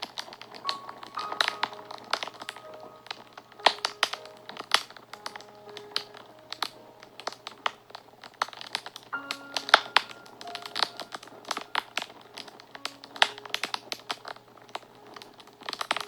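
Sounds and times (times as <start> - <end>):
faint background music: 0.0 - 16.0
wood fire crackling and popping: 0.0 - 16.0.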